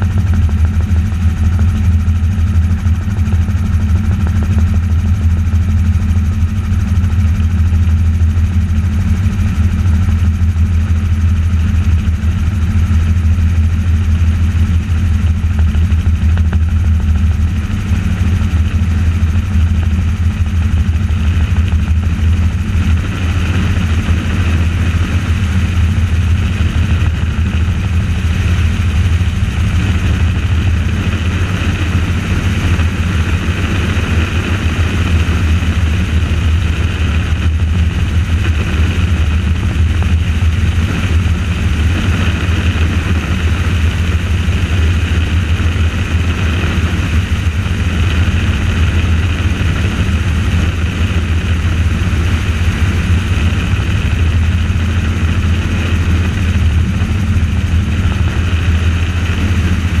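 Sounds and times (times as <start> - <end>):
helicopter engine and rotors: 0.0 - 60.0.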